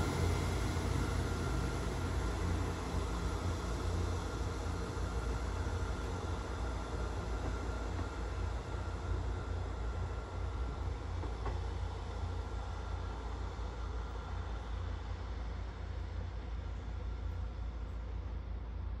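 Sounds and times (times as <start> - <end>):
diesel train engine rumble: 0.0 - 19.0.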